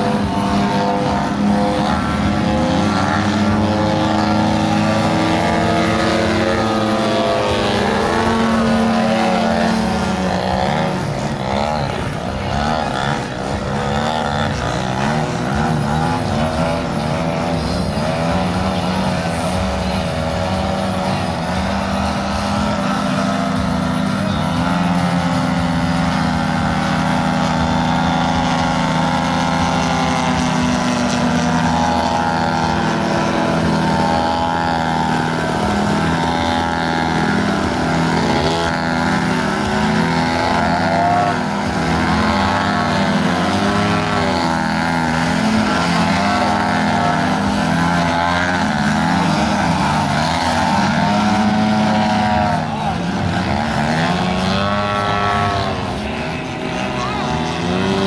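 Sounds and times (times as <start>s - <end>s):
model plane engine revving: 0.0s - 58.0s.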